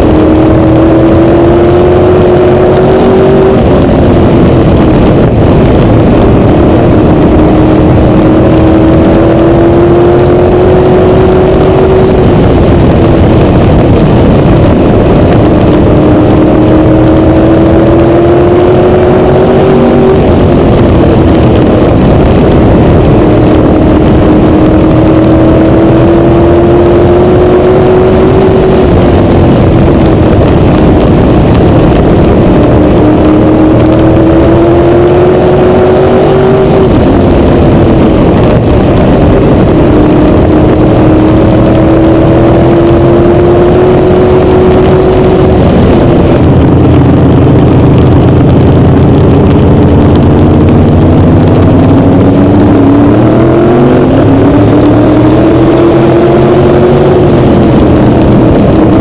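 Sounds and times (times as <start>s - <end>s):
race car engine drone: 0.0s - 59.0s.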